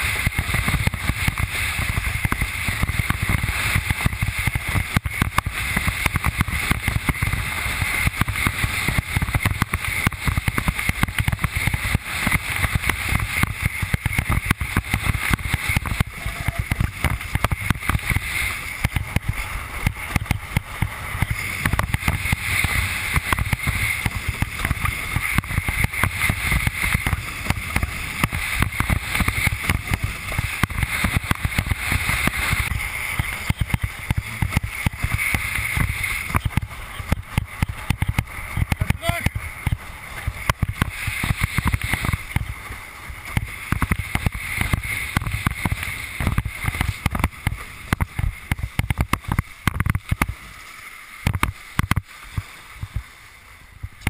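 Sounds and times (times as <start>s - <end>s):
wind rushing over microphone: 0.0s - 50.6s
board hull slapping on water: 0.0s - 53.2s
water spray hissing: 0.0s - 54.0s.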